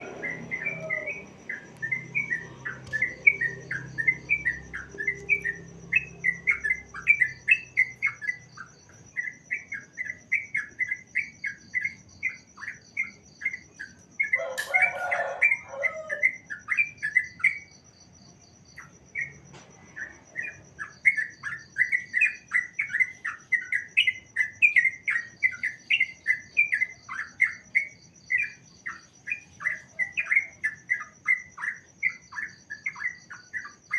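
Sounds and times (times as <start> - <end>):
bird singing: 0.0 - 33.9.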